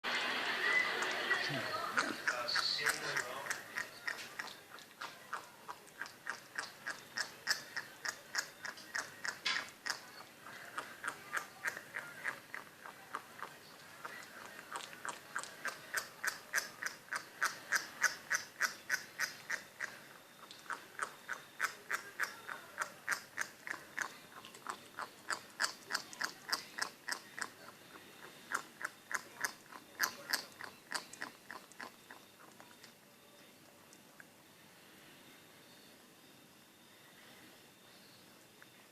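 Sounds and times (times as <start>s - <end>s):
puppy chewing a bone: 1.0s - 34.4s.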